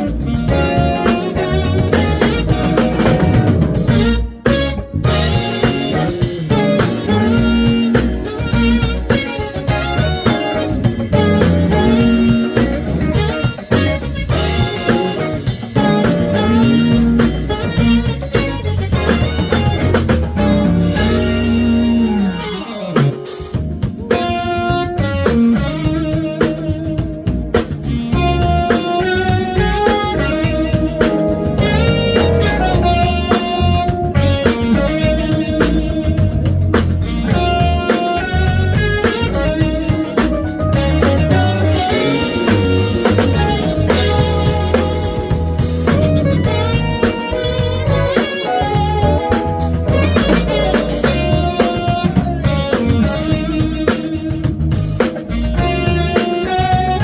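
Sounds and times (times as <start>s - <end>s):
saxophone melodic runs: 0.0s - 57.0s
smooth jazz band playing: 0.0s - 57.0s.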